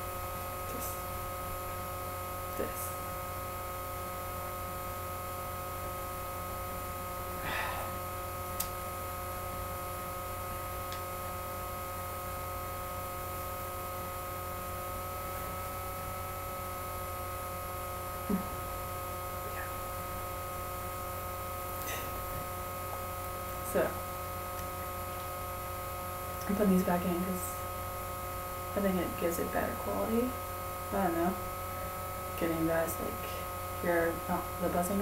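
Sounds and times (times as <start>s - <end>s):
electrical hum and buzz: 0.0s - 35.0s.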